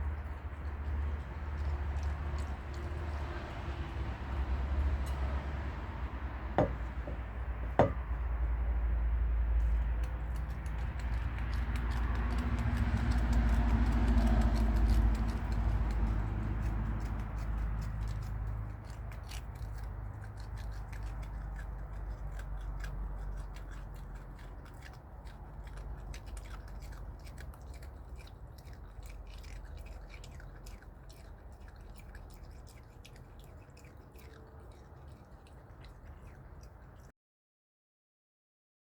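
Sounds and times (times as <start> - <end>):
animal chewing crisp cookies: 0.0 - 37.1.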